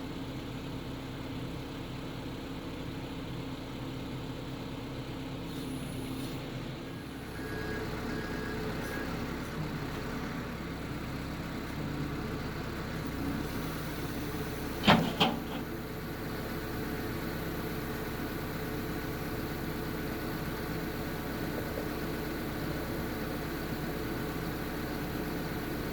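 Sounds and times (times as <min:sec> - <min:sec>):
backhoe diesel engine running: 0:00.0 - 0:25.9.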